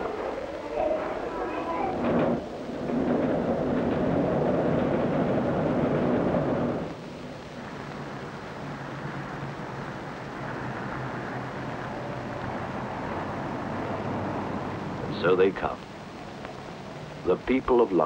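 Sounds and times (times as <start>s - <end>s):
street traffic noise: 0.0s - 18.0s
train rumbling over steel bridge: 0.0s - 18.0s.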